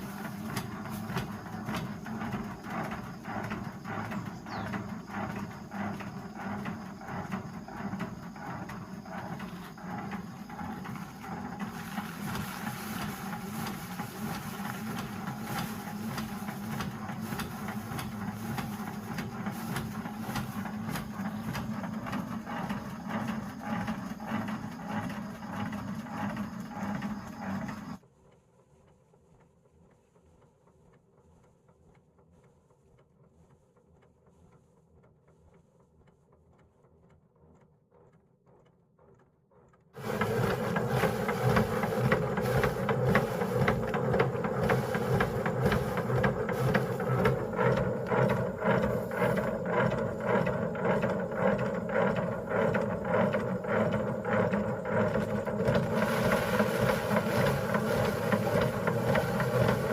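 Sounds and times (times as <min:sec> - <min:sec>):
engine-driven machine running: 0:00.0 - 0:28.0, 0:37.4 - 0:59.9.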